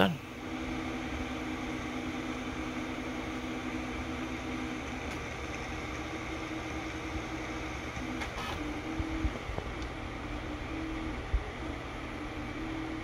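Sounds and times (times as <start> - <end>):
cooling fans hissing: 0.0 - 13.0
stepper motors whining: 0.0 - 13.0.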